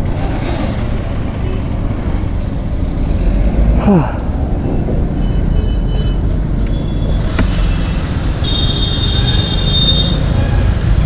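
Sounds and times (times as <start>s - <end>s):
motorcycle road noise: 0.0s - 11.0s
wind rush: 2.1s - 11.0s.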